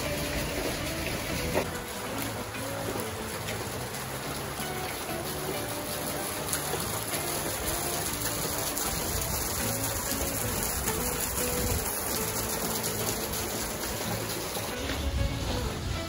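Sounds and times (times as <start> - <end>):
background music: 0.0 - 16.0
water splashing from water wheel: 0.0 - 16.0.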